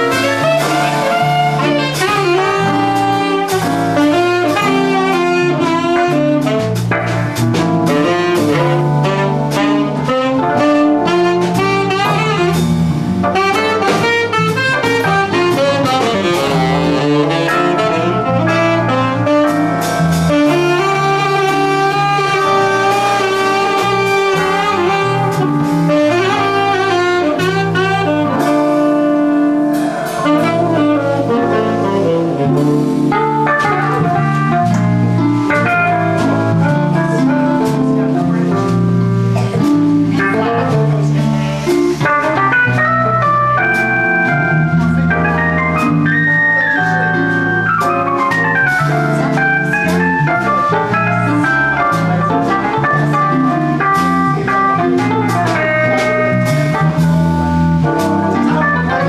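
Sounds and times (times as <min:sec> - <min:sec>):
jazz band playing: 0:00.0 - 0:59.0
saxophone solo: 0:00.0 - 0:59.0.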